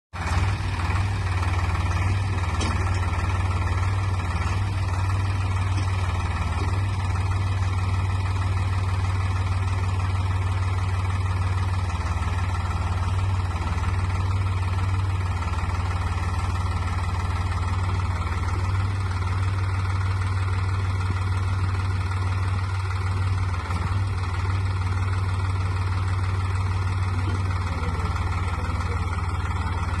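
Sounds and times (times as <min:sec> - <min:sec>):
tractor diesel engine humming: 0:00.1 - 0:30.0.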